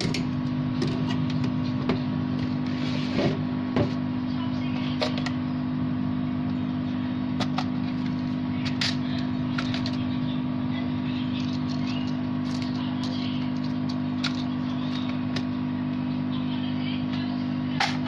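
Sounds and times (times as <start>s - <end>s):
workbench equipment hum: 0.0s - 18.0s.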